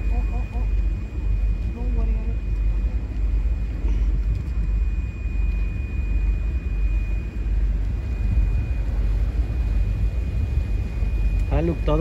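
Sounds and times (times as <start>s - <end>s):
faint high whine: 0.0s - 12.0s
motor boat engine rumble: 0.0s - 12.0s.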